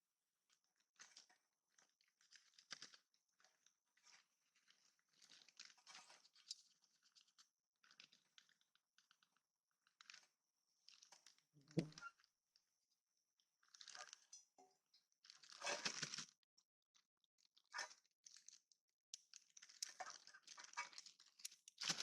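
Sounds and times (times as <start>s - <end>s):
faint crunching and crinkling: 0.4s - 22.0s.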